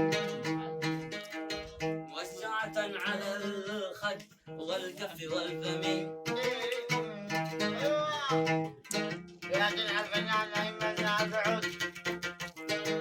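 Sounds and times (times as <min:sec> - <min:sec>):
person singing: 0:00.0 - 0:01.4, 0:02.1 - 0:13.0
plucked string instrument melody: 0:00.0 - 0:13.0.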